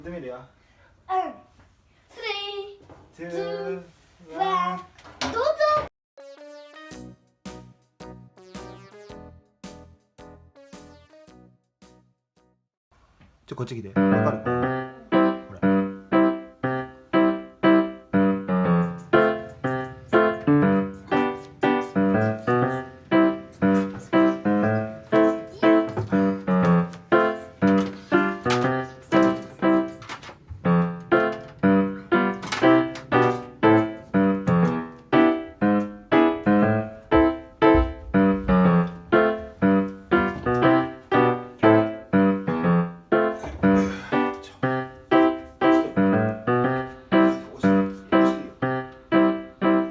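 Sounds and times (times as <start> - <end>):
piano music: 6.2 - 12.5, 13.9 - 49.9.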